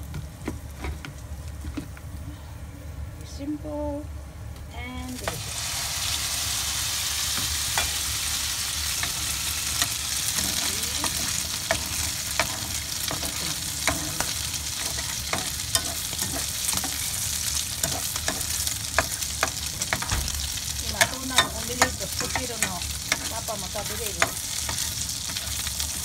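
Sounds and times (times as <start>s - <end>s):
oil sizzling in a frying pan: 5.1s - 26.0s.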